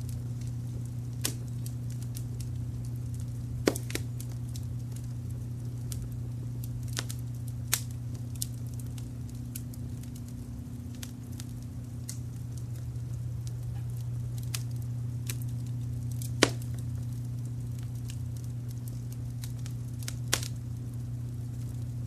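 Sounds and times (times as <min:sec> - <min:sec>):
loud fire pops: 0:00.0 - 0:22.0
low rumble of brown noise: 0:00.0 - 0:22.0
wood fire crackling: 0:00.0 - 0:22.0.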